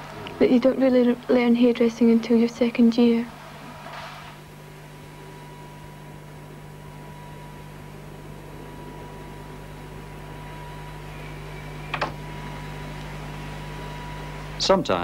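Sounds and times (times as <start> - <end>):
faint high whine: 0.0 - 15.0
mains hum: 0.0 - 15.0.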